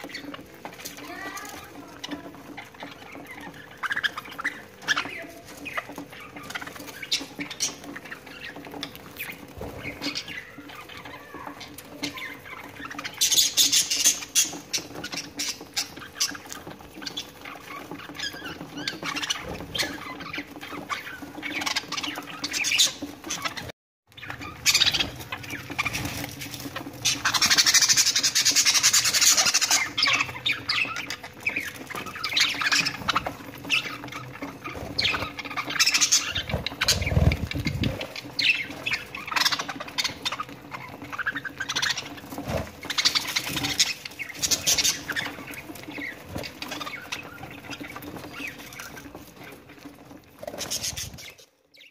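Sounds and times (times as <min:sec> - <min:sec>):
budgerigars chattering and squawking: 0:00.0 - 0:51.9.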